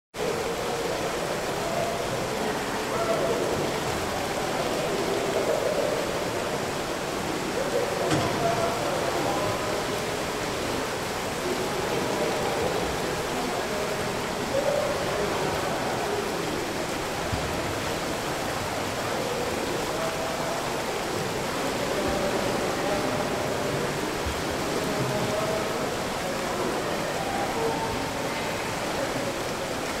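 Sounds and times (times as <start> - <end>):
faint muffled voices: 0.2 - 30.0
rushing water: 0.2 - 30.0.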